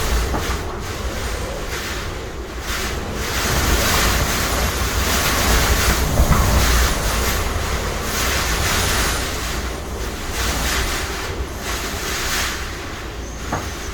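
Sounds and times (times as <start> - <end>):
surf crashing: 0.0 - 13.9
wind gusting on microphone: 0.0 - 13.9.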